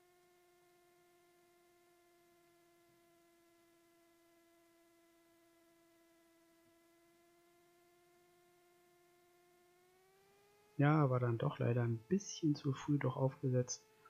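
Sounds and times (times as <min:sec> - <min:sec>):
faint electrical whine: 0:00.0 - 0:14.0.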